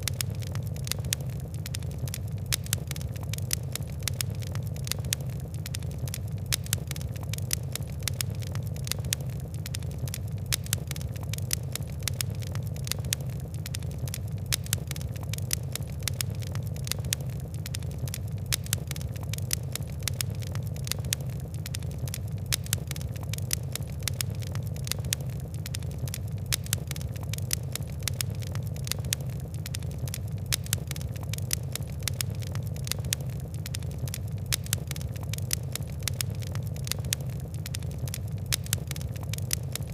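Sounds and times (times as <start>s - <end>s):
fire crackling and popping: 0.0s - 39.9s
low fire rumble: 0.0s - 39.9s.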